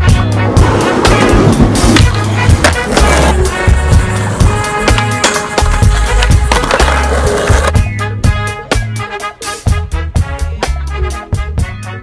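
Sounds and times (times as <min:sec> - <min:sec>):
steady drum beat: 0:00.0 - 0:11.8.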